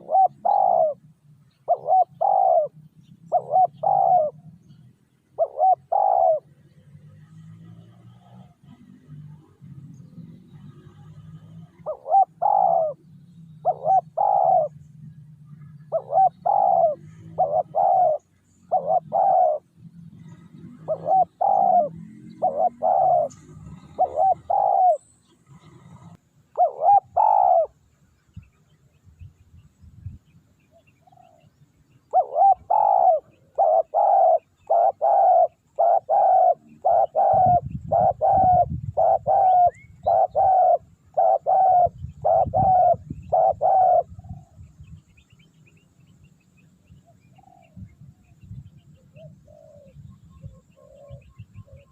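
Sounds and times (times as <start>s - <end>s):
doves cooing: 0.0s - 27.8s, 30.7s - 45.0s, 47.0s - 48.3s, 48.9s - 51.9s.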